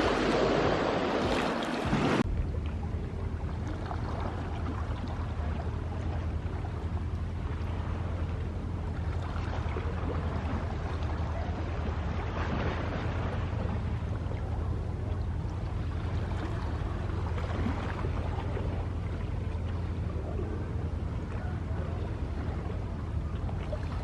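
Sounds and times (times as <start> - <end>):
low hum: 0.0 - 24.0
sea waves washing: 0.0 - 24.0.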